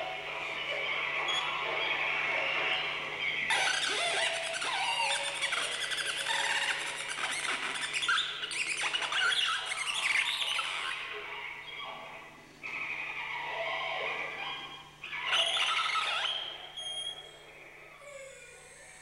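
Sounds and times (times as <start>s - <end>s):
squealing electronic feedback tones: 0.0s - 12.0s, 12.7s - 17.6s.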